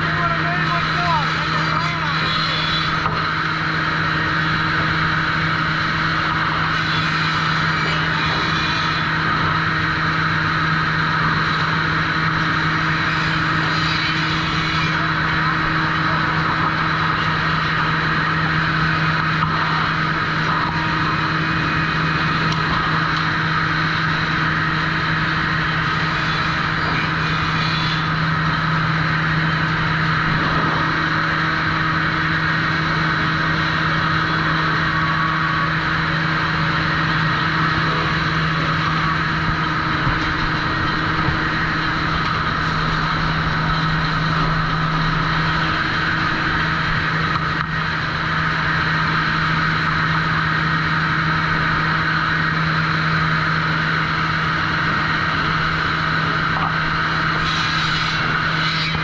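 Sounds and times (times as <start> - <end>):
sawmill machinery motor hum: 0.0 - 59.0.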